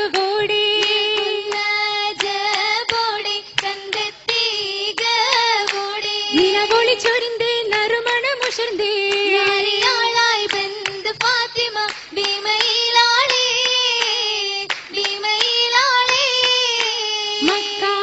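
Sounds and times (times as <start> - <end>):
girls singing in unison: 0.0 - 18.0
rhythmic hand clapping: 0.0 - 18.0.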